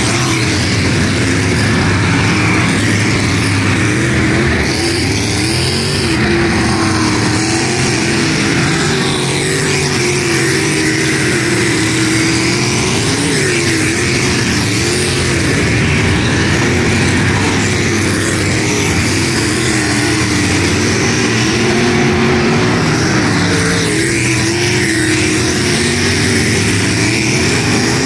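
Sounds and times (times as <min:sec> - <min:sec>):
race car engines: 0:00.0 - 0:28.0.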